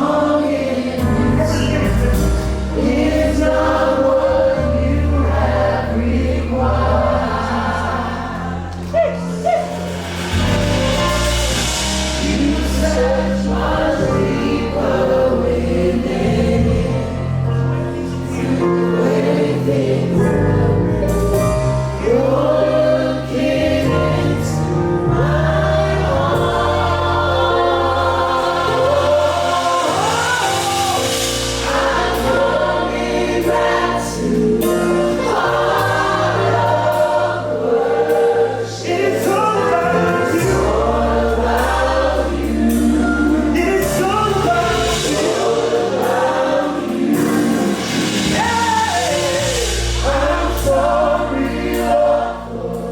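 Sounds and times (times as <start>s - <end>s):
band with bass and keyboard: 0.0s - 52.9s
choir singing gospel: 0.0s - 52.9s.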